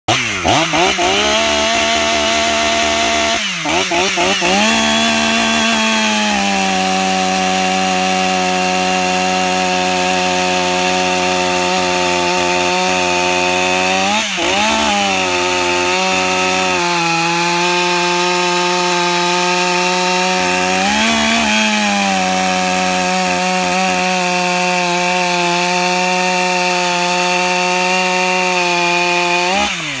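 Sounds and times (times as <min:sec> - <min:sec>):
chainsaw cutting log: 0:00.1 - 0:30.0.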